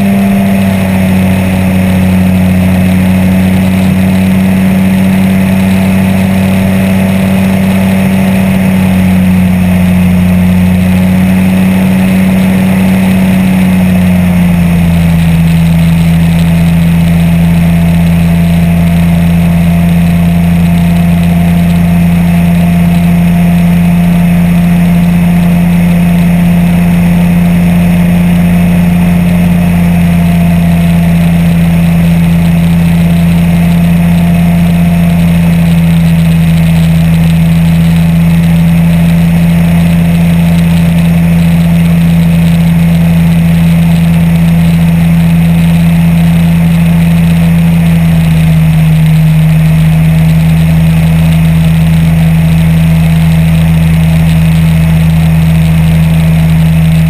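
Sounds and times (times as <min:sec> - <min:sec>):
microlight engine droning: 0:00.0 - 0:57.0.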